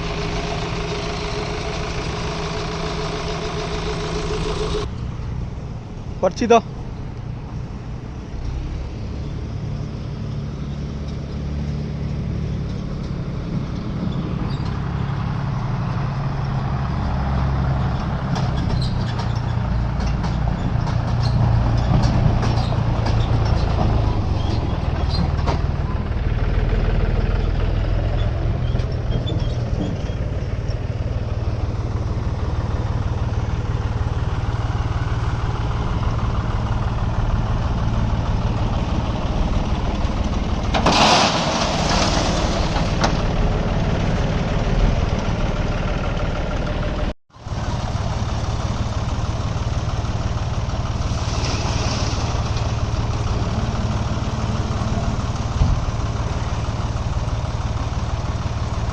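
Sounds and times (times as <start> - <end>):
heavy diesel engines running: 0.0 - 58.9.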